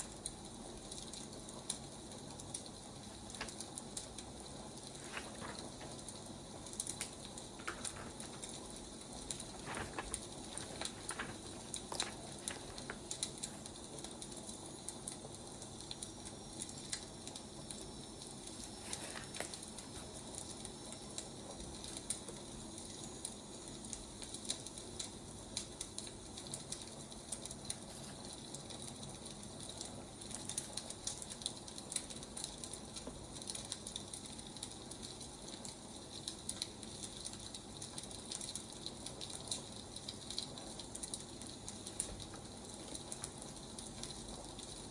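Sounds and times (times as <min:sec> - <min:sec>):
firewood crackling and popping: 0:00.0 - 0:44.9
low steady hiss: 0:00.0 - 0:44.9.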